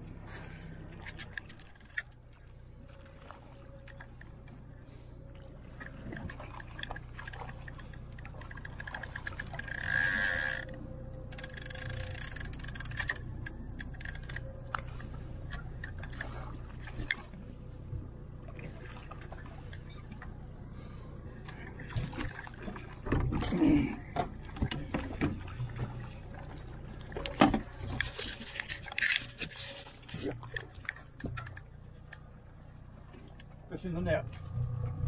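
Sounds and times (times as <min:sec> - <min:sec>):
boat motor running: 0:00.0 - 0:35.0
fish thrashing and splashing: 0:00.8 - 0:32.3.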